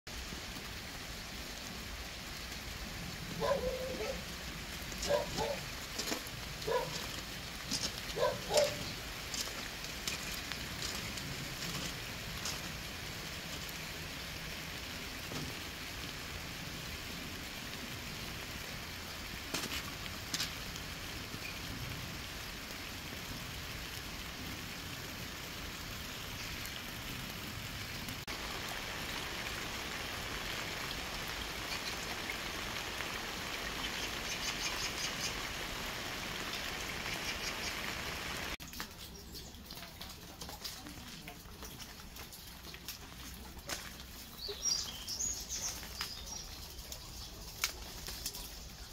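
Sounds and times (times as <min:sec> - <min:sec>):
steady rain falling: 0:00.1 - 0:48.9.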